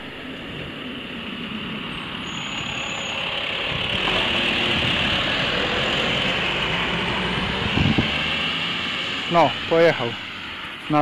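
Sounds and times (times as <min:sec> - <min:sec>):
truck engine rumble: 0:00.0 - 0:11.0.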